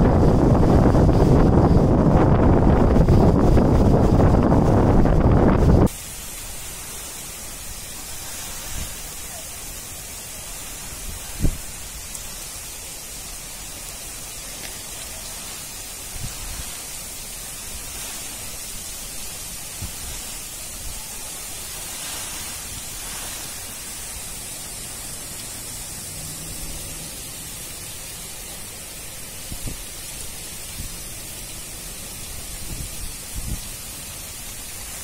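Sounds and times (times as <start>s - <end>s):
heavy rain on paving: 0.0s - 35.0s.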